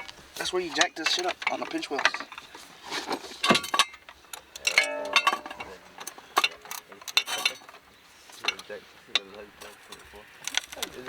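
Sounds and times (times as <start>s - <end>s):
metal tools clinking: 0.0s - 11.0s.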